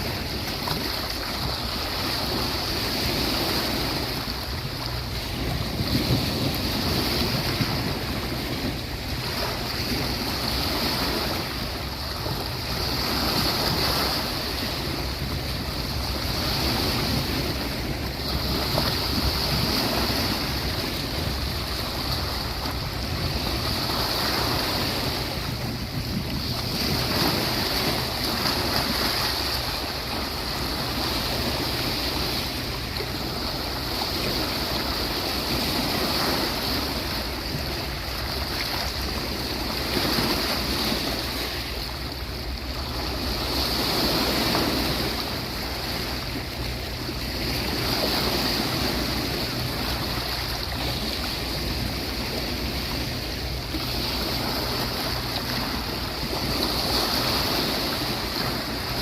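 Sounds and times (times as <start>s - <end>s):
sea waves breaking on beach: 0.0s - 59.0s.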